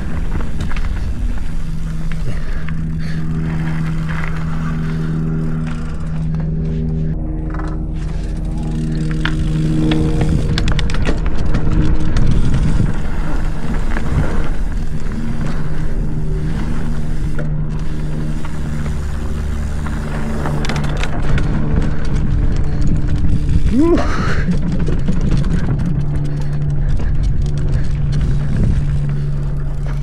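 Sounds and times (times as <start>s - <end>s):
bike clattering over bumps: 0.0s - 6.7s, 7.4s - 30.0s
bike tyres humming on dirt: 0.0s - 30.0s.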